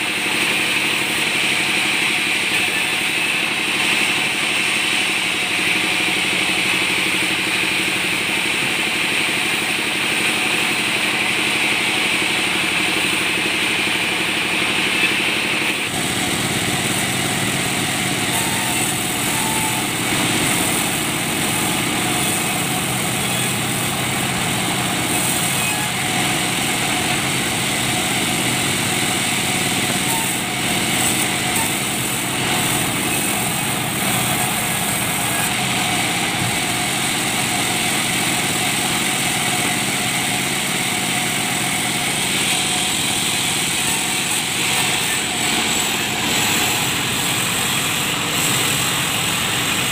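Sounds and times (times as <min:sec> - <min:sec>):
sawmill saw running: 0:00.0 - 0:49.9.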